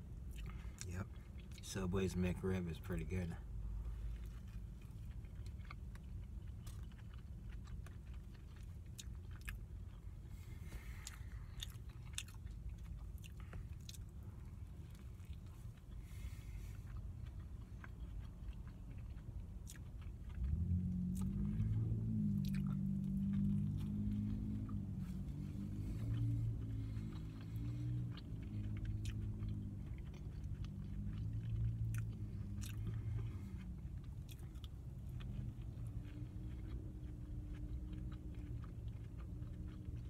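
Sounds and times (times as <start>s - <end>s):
low droning hum: 0.0s - 40.0s
person chewing a sandwich: 0.0s - 40.0s.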